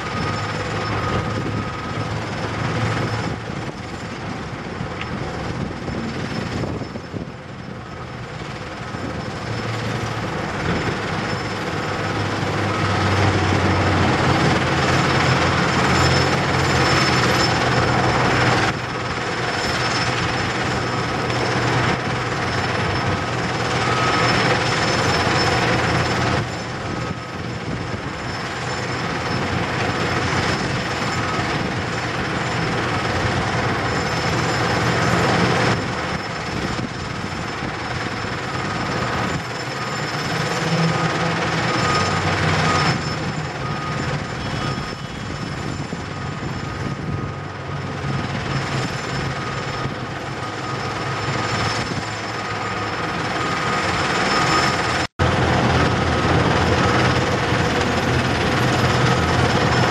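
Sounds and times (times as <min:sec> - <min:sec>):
drone of site machinery: 0:00.0 - 0:59.9
excavator diesel engine: 0:00.0 - 0:59.9.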